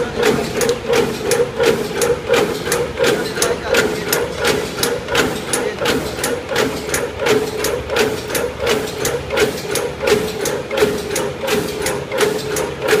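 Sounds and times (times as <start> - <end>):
machine clacking rhythmically: 0.0 - 13.0
machine hum: 0.0 - 13.0.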